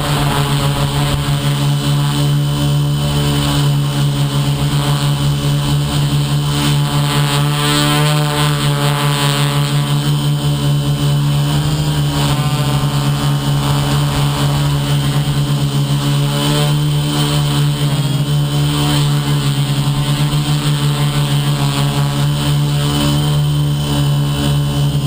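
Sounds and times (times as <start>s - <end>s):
model aircraft motor and propeller: 0.0s - 25.0s.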